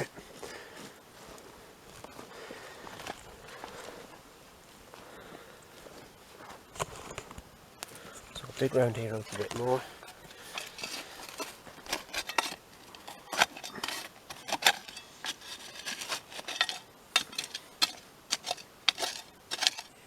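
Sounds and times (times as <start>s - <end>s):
digging in dry soil: 0.0s - 20.0s.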